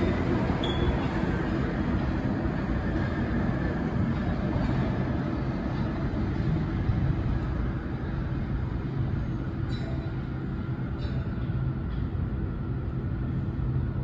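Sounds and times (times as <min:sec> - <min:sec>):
subway train rumbling in tunnel: 0:00.0 - 0:14.0.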